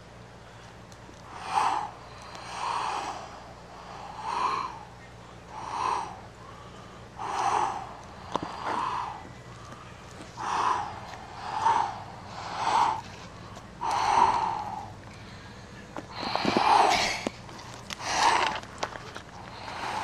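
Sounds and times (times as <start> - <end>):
person gasping for breath: 1.3 - 20.0.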